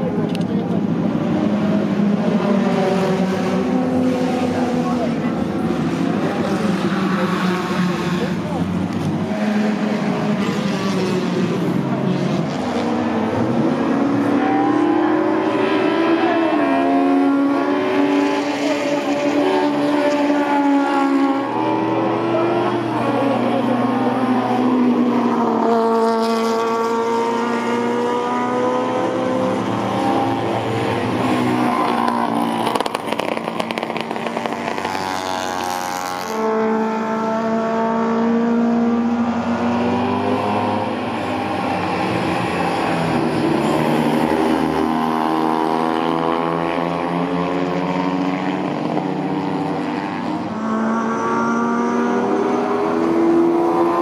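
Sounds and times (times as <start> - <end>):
race cars passing: 0.0 - 54.0.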